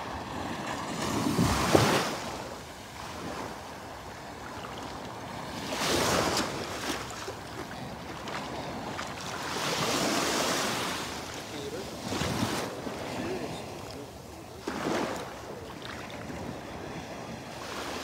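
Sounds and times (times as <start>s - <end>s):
waves washing up the beach: 0.0s - 18.0s.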